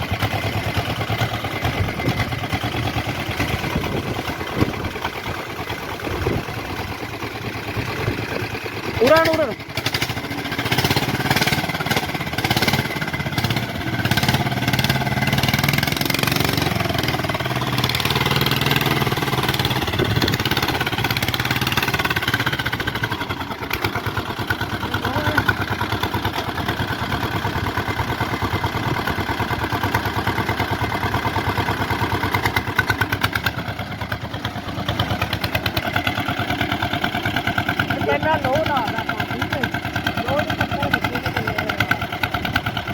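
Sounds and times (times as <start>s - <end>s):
tractor engine chugging: 0.0s - 42.9s.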